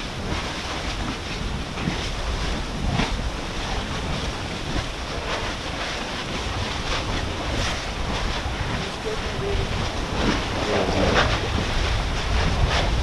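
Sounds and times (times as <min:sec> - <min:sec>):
faint crackles: 0:00.0 - 0:13.0
lava churning and splashing: 0:00.0 - 0:13.0
wind on microphone: 0:00.0 - 0:13.0.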